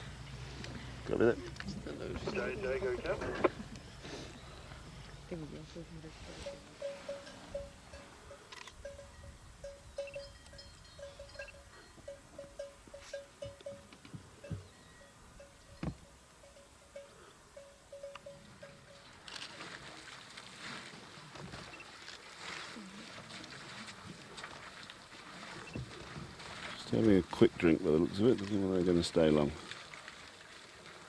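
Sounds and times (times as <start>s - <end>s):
rustling: 0.0s - 14.3s, 18.0s - 31.0s.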